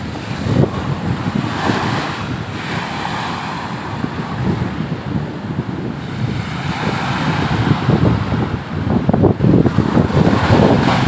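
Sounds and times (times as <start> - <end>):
sea waves breaking on sand: 0.0 - 11.0
wind buffeting microphone: 0.0 - 11.0.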